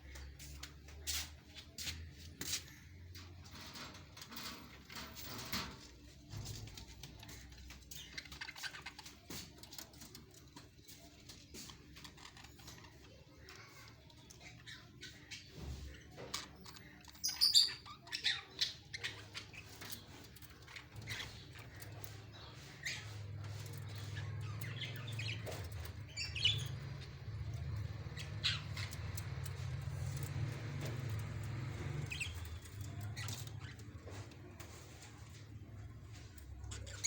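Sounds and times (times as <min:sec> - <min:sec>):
birds chirping and squawking: 0:00.0 - 0:37.0.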